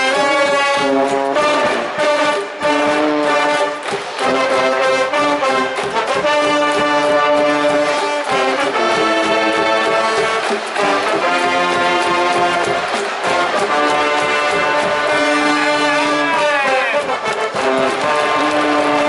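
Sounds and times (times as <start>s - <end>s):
brass band playing a cheer tune: 0.0s - 19.0s.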